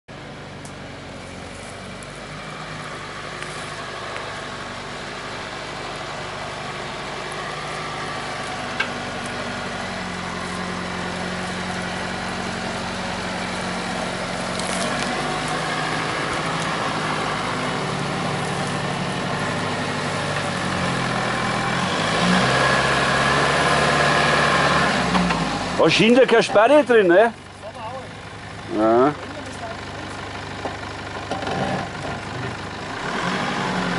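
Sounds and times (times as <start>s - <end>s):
off-road vehicle engine: 0.1s - 33.9s.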